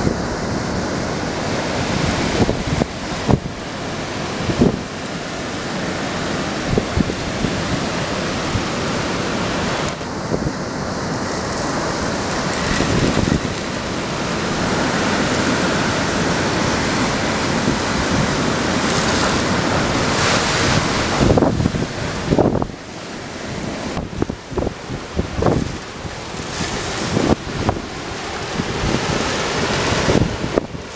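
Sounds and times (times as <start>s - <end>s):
heavy driving rain: 0.0s - 30.9s
strong wind: 0.0s - 30.9s
wind buffeting microphone: 0.0s - 30.9s.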